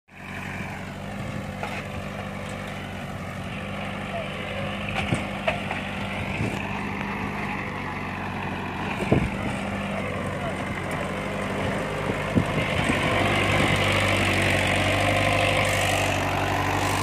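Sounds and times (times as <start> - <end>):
tractor diesel engine running: 0.1 - 17.0.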